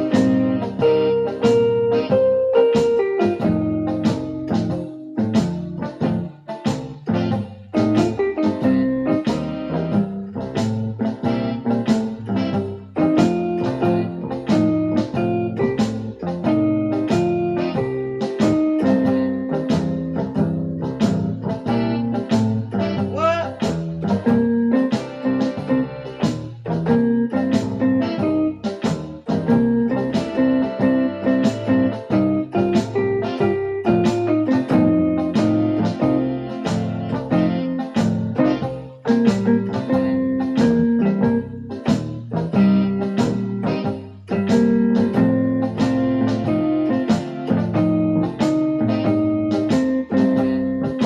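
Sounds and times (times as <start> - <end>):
electronic keyboard playing blues: 0.0 - 51.0.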